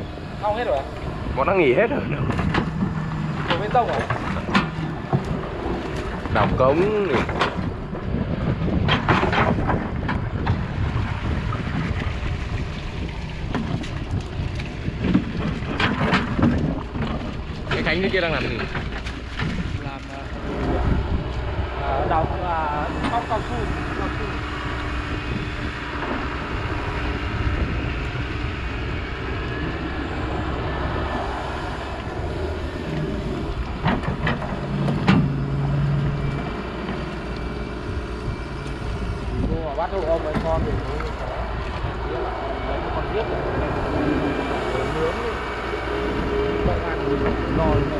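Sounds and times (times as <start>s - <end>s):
diesel engine rumbling: 0.0s - 47.9s
wind on microphone: 0.0s - 47.9s.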